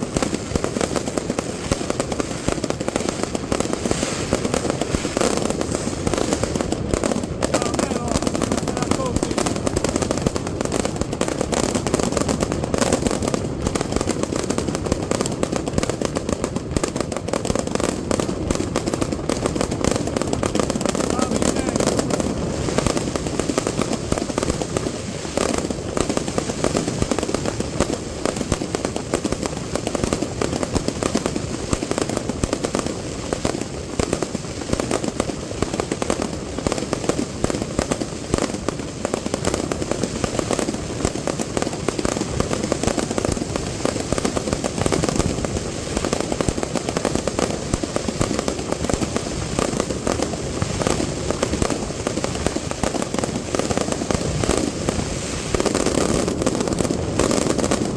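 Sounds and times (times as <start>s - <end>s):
fireworks cracks and bangs: 0.0s - 57.9s.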